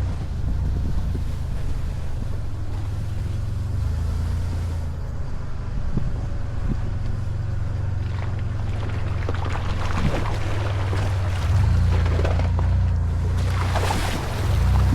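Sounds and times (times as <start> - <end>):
vehicle engine running at low revs: 0.0 - 14.9.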